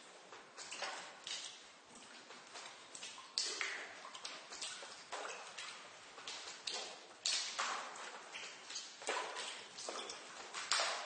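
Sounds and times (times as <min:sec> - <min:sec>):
water drops dripping with echo: 0:00.0 - 0:11.0.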